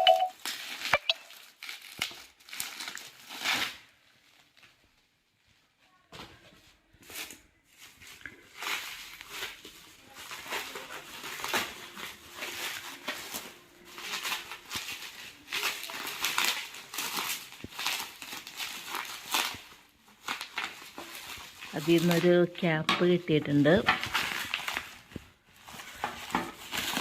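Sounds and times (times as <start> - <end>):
packaging crinkling: 0.0 - 5.4, 7.1 - 22.6, 23.4 - 27.0.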